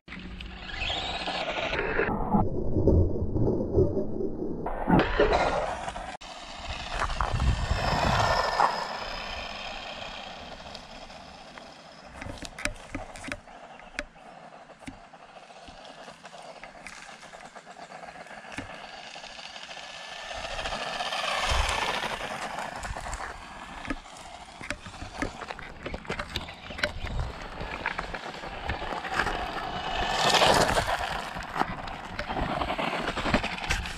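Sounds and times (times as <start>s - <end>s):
toy car electric motor whine: 0.1s - 2.1s, 5.3s - 33.9s
tyres crunching gravel: 5.3s - 33.9s.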